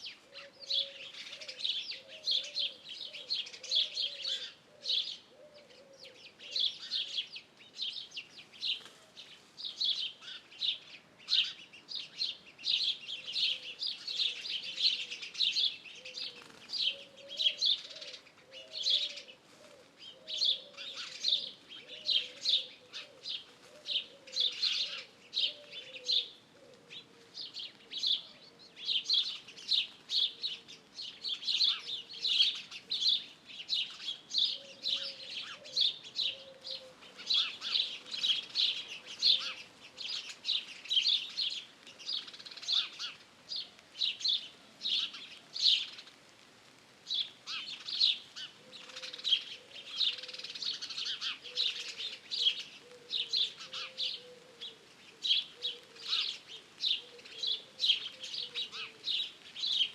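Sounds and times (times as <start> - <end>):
pigeon cooing: 0.0 - 7.4, 12.8 - 46.1, 47.5 - 59.9
small birds chirping and trilling: 0.0 - 59.9.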